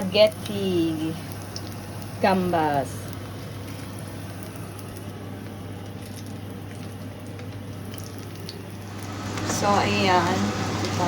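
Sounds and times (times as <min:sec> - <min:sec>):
hiss of cooking on stove: 0:00.0 - 0:11.0.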